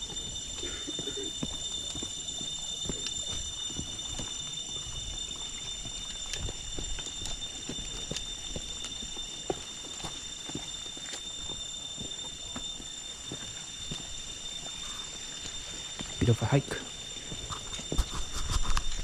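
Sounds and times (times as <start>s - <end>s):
footsteps on stone and dirt trail: 0.0s - 19.0s
high-pitched drone: 0.0s - 19.0s.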